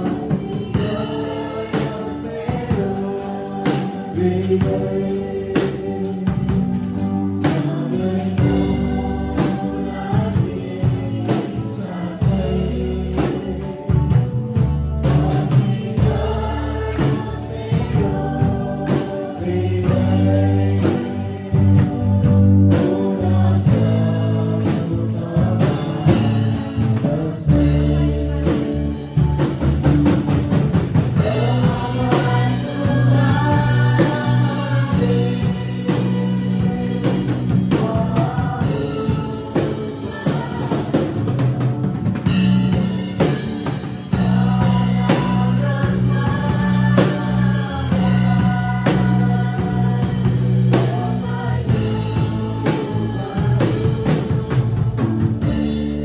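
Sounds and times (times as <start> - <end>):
singer at a microphone: 0.0 - 30.3, 30.9 - 56.0
congregation singing: 0.0 - 56.0
live band playing: 0.0 - 56.0.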